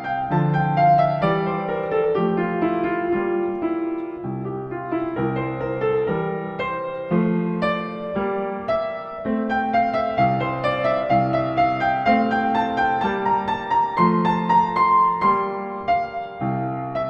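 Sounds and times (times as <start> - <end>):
solo piano piece: 0.0 - 17.0.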